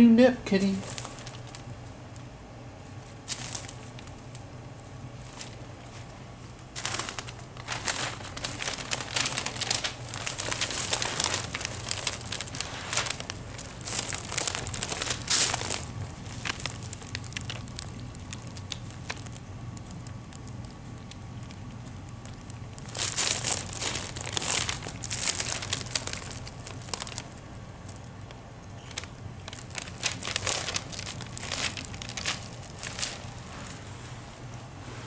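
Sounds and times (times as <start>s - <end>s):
tissue paper crinkling under paws: 0.7s - 1.6s, 3.0s - 4.3s, 5.1s - 21.2s, 22.0s - 28.2s, 28.8s - 34.2s.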